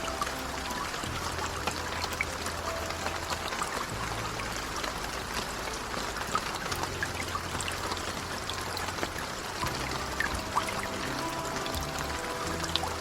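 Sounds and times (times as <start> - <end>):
low sustained tones: 0.0 - 13.0
rain falling: 0.0 - 13.0
raindrop ticks: 0.0 - 13.0.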